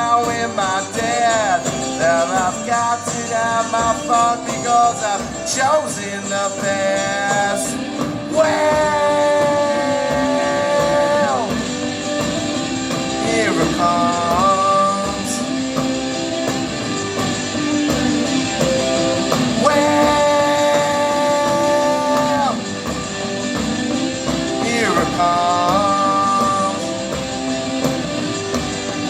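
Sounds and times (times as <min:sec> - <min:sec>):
electric guitar bending notes: 0:00.0 - 0:29.0
live rock band playing: 0:00.0 - 0:29.0.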